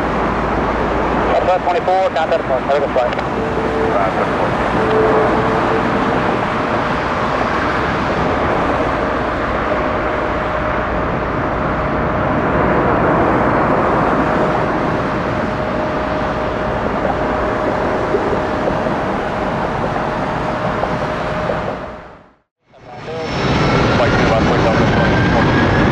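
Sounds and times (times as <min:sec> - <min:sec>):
jet engines roaring with whine: 0:00.0 - 0:25.9.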